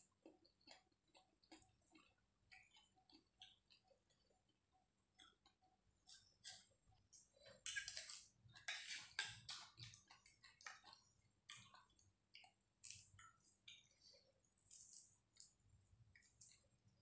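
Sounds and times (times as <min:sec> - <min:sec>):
person chewing crunchy vegetables: 0:00.1 - 0:17.0.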